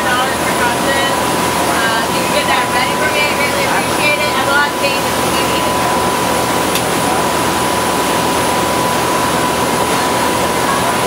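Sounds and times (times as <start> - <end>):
boat engine running: 0.0 - 11.0
thin steady whine: 0.0 - 11.0.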